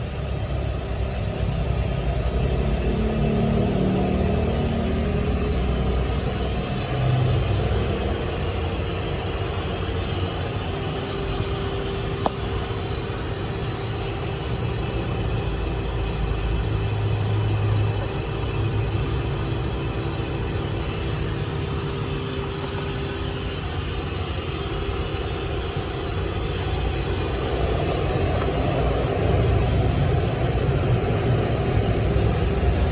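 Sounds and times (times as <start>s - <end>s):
engine running unevenly: 0.0s - 32.9s.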